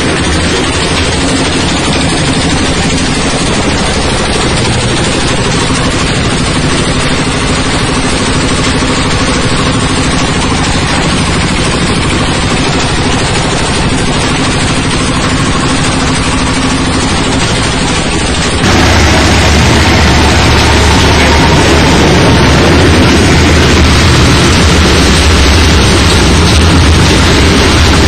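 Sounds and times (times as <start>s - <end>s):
machine hum: 0.0s - 28.0s
shredding machine rattling: 0.0s - 28.0s.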